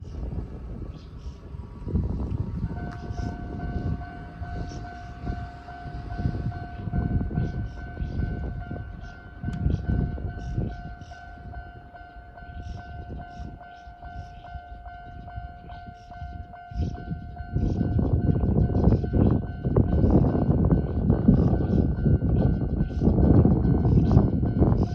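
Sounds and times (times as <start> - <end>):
level-crossing warning bell ringing: 1.3 - 24.9.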